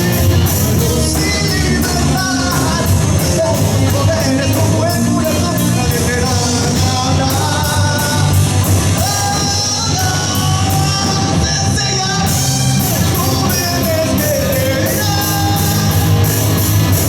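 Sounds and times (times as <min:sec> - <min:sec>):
bass guitar: 0:00.0 - 0:17.0
drums: 0:00.0 - 0:17.0
electric guitar: 0:00.0 - 0:17.0
person singing: 0:00.0 - 0:17.0.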